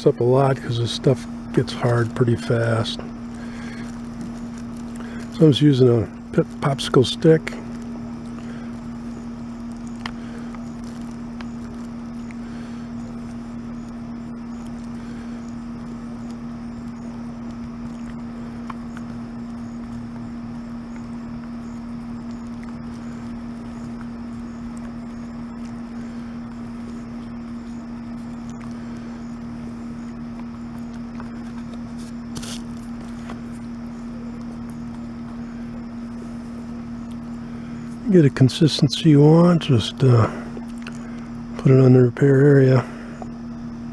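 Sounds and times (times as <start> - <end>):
noisy hiss: 0.0 - 43.9
steady low hum: 0.0 - 43.9
faint ticks: 0.7 - 41.8.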